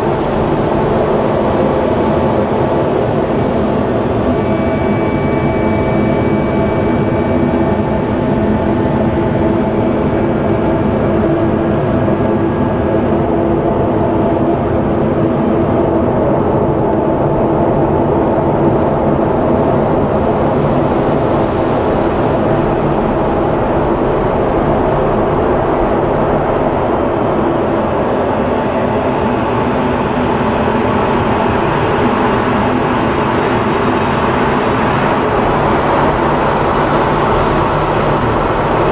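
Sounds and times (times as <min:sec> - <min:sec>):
jet engine running: 0:00.0 - 0:38.9.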